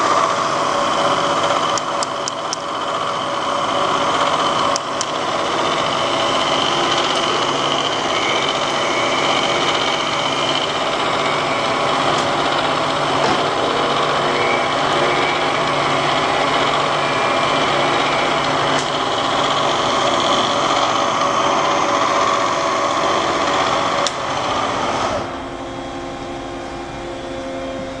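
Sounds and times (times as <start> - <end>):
milling machine whirring: 0.0 - 28.0.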